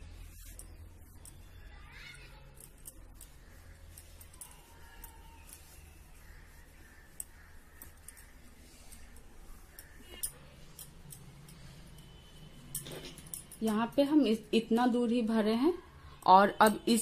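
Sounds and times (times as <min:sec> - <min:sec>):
cloth rustling: 0:00.0 - 0:14.4.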